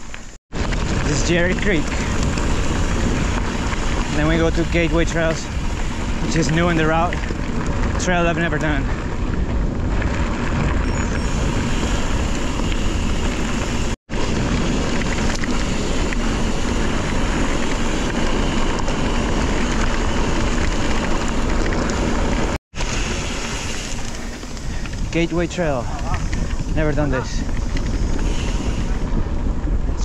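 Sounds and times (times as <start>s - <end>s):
mountain bike rolling and rattling: 0.0s - 30.0s
wind buffeting microphone: 0.0s - 30.0s.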